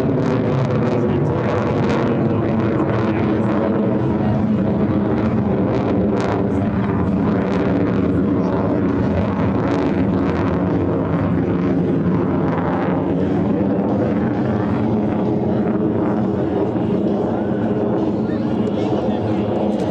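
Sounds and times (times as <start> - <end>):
jet engine roar: 0.0 - 19.9.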